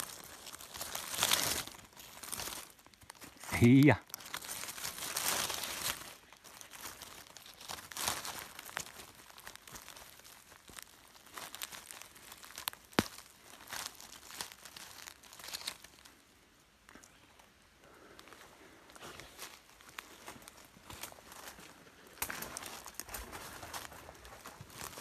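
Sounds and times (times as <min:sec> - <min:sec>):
dry leaves rustling and crackling: 0:00.0 - 0:25.0.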